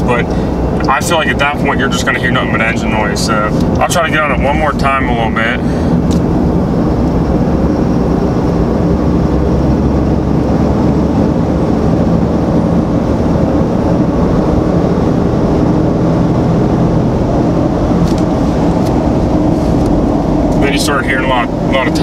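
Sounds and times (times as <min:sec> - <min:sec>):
diesel engine drone: 0:00.0 - 0:22.0
road and tire noise: 0:00.0 - 0:22.0
turbo whine: 0:00.0 - 0:22.0.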